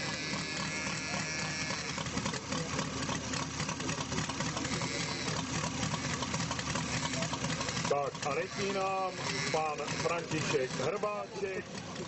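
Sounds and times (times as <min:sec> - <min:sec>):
model aircraft engine running: 0:00.0 - 0:12.0.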